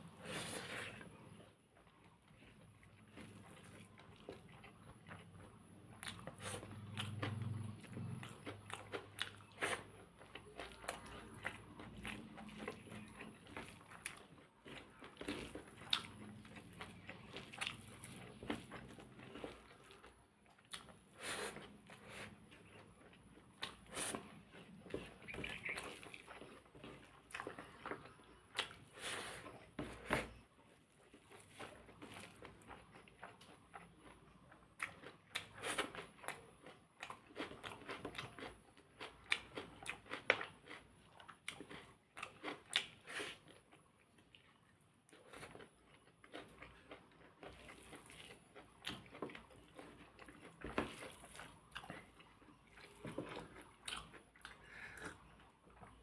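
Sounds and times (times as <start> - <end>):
person chewing and biting: 2.5 - 30.4, 31.1 - 44.5, 45.1 - 56.0.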